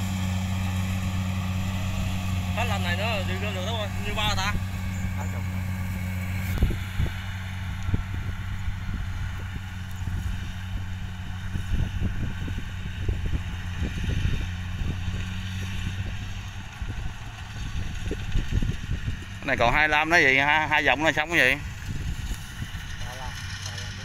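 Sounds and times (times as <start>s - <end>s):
combine harvester engine drone: 0.0s - 24.0s
wind buffeting microphone: 0.1s - 24.0s.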